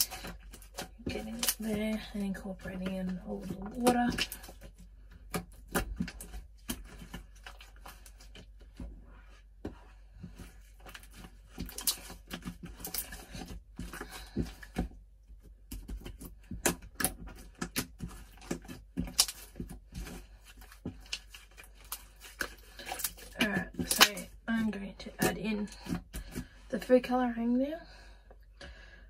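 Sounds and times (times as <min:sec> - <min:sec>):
slime squelching by hand: 0:00.0 - 0:27.2.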